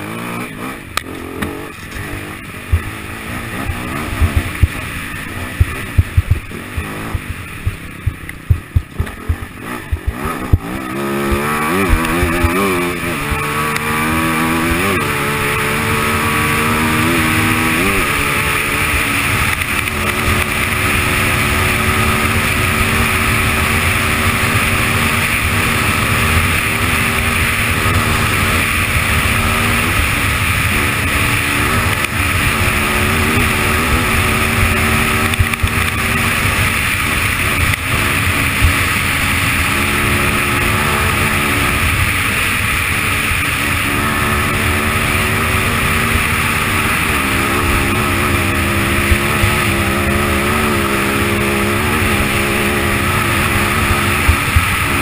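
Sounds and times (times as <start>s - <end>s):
knocks and thumps over rough trail: 0.0s - 55.0s
motorcycle engine revving: 0.0s - 55.0s
tyre and wind noise: 0.0s - 55.0s.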